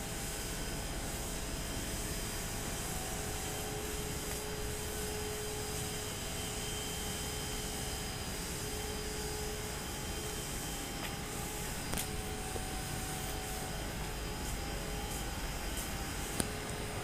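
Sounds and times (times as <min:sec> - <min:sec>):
cooling tower rushing noise: 0:00.0 - 0:17.0
faint steady tones: 0:00.0 - 0:17.0.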